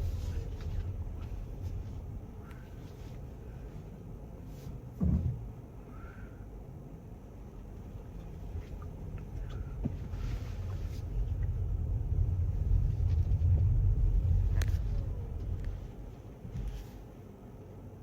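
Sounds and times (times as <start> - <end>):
truck diesel engine rumbling: 0.0 - 16.5.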